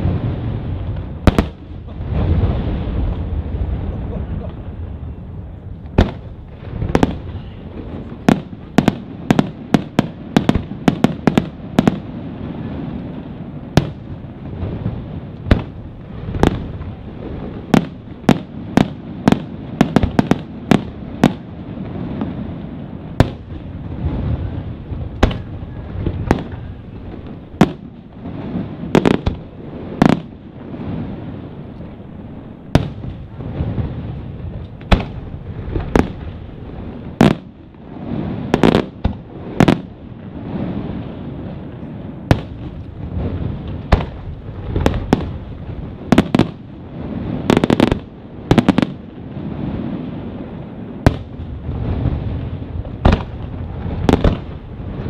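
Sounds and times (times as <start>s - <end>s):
low rumble of booms: 0.0s - 49.8s
fireworks bursting with sharp bangs: 0.0s - 55.0s.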